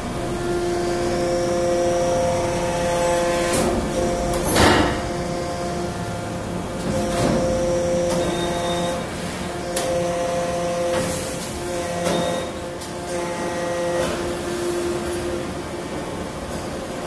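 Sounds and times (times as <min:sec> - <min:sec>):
noisy machine surges: 0:00.0 - 0:17.0
press machine humming: 0:00.0 - 0:17.0.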